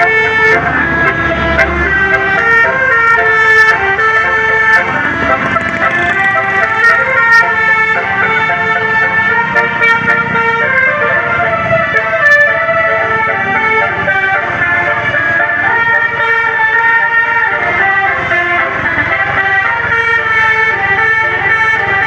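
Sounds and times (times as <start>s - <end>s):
bus air horn playing a tune: 0.0s - 22.0s.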